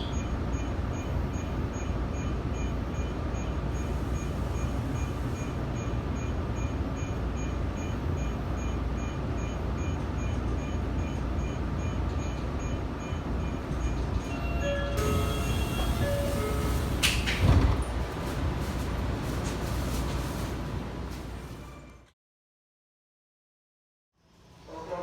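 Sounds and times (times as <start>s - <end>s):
subway train rumbling: 0.0s - 22.2s, 24.3s - 25.0s.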